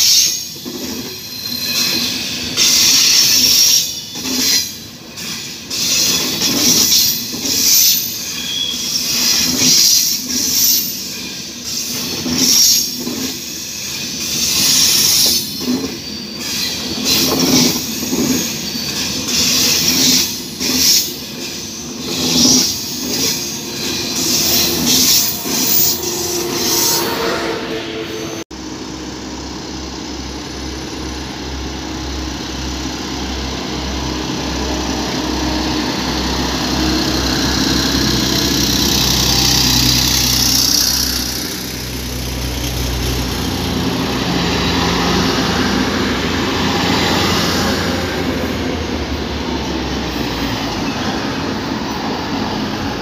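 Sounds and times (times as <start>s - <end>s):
train engine droning: 0.0s - 53.0s.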